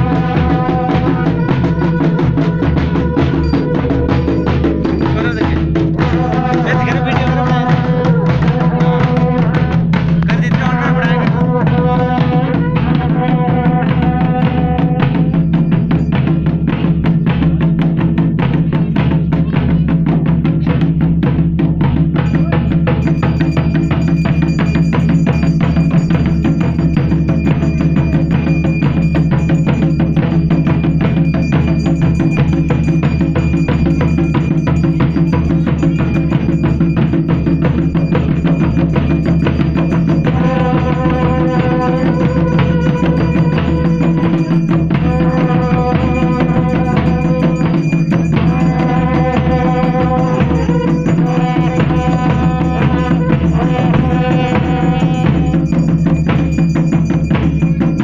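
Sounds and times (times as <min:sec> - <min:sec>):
steady high tone: 0:00.0 - 0:16.6, 0:22.2 - 0:58.0
barrel drums beaten fast: 0:00.0 - 0:58.0
pitched melody: 0:00.0 - 0:58.0.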